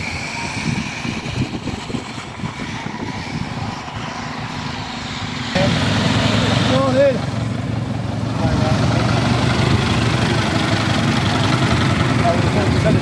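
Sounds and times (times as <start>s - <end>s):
car engine idling: 0.0s - 13.0s
car engine rumbling unevenly: 0.0s - 13.0s.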